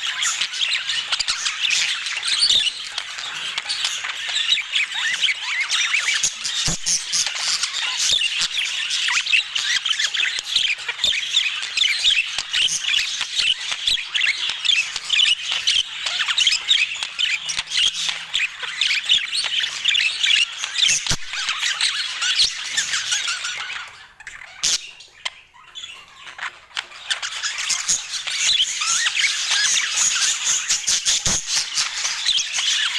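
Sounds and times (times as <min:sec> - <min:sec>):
budgerigars chattering: 0:00.0 - 0:32.9.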